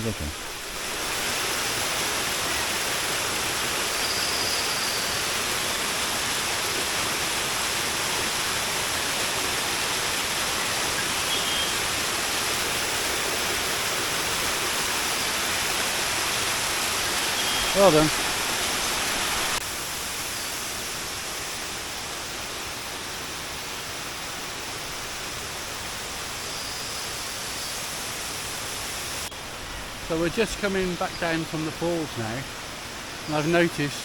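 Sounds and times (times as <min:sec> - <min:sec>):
waterfall rushing: 0:00.0 - 0:26.5, 0:27.2 - 0:34.0.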